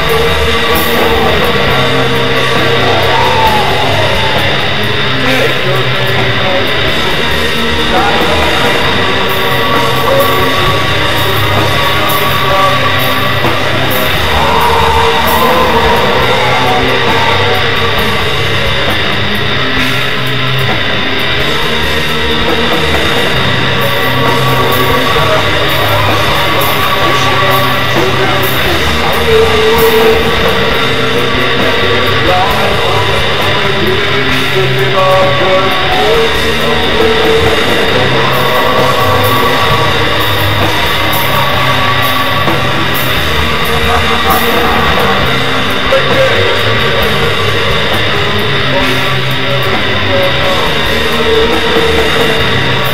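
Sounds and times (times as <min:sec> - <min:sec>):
metal music with distorted guitars: 0:00.0 - 0:52.9.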